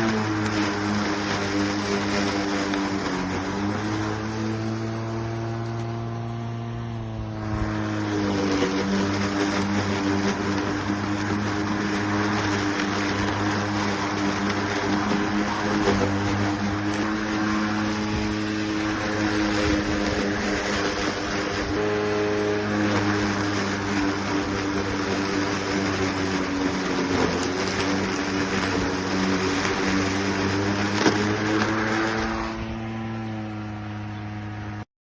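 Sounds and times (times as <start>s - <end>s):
grass being cut: 0.0s - 34.9s
lawn mower humming: 0.0s - 34.9s.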